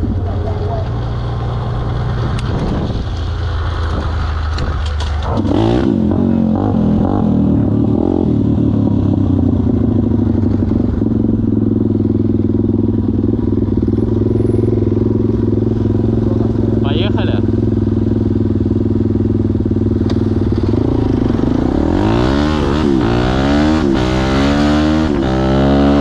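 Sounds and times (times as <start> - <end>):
pit bike engine revving: 0.0 - 26.0.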